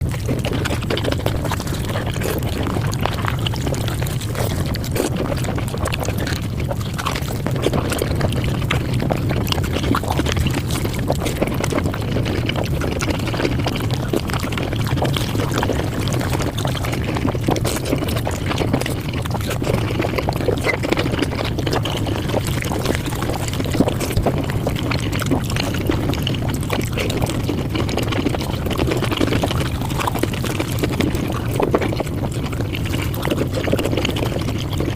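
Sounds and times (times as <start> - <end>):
sped-up chewing and crunching: 0.0 - 34.9.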